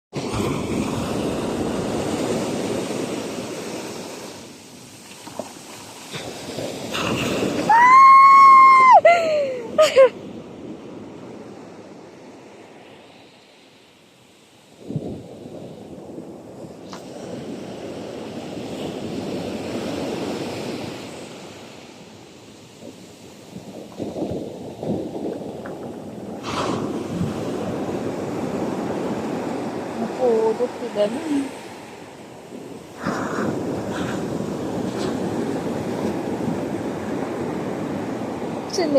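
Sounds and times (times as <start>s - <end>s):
ocean waves washing on shore: 0.1s - 38.9s
wind buffeting microphone: 0.2s - 12.7s, 14.6s - 38.9s.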